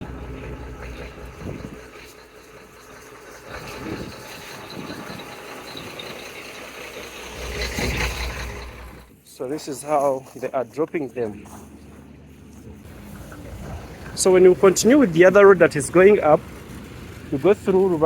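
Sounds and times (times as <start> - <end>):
heavy vehicle engine running: 0.0 - 18.0.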